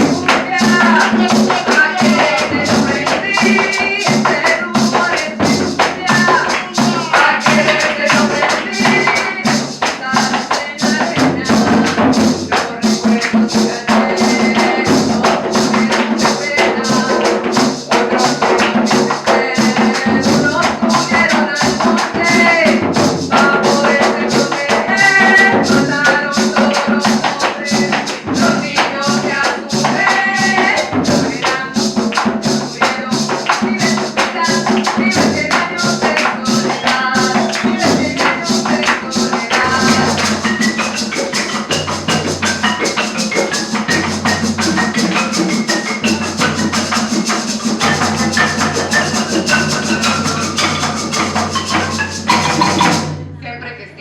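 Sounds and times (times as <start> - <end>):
shaken percussion beat: 0.0 - 53.7
cumbia band playing: 0.0 - 54.0.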